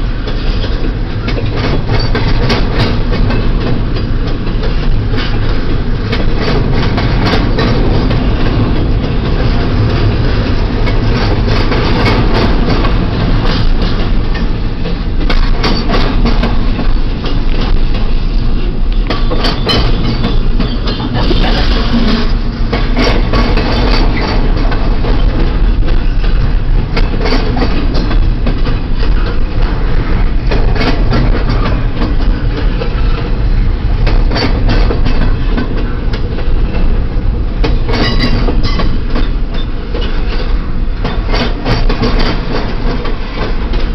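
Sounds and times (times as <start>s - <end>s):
freight train rolling past: 0.0s - 43.9s
wheels clunking over rail joints: 0.0s - 43.9s.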